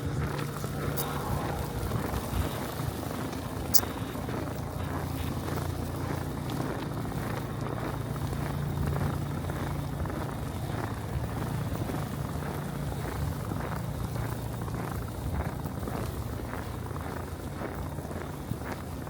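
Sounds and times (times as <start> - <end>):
footsteps crunching in snow: 0.0 - 19.0
low engine drone: 0.0 - 19.0.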